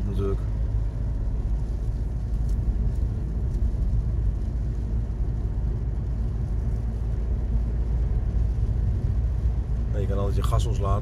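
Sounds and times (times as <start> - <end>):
heavy rain: 0.0 - 10.5
car driving on wet road: 0.0 - 11.0.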